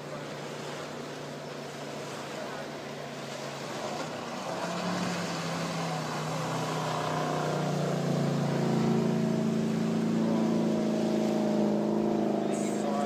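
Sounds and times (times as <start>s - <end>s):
motorboat engine running: 0.0s - 13.0s
water noise: 0.0s - 13.0s
wind: 0.0s - 13.0s.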